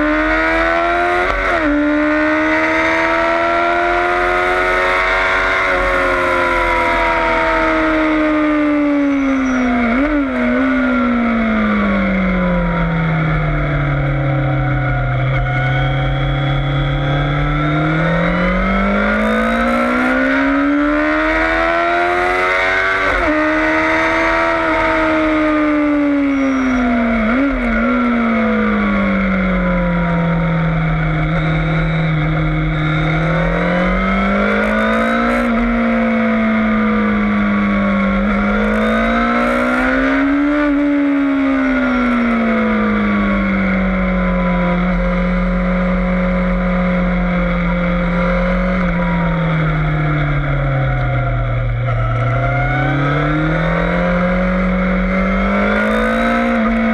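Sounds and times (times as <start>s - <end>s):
motorcycle engine: 0.0s - 56.9s.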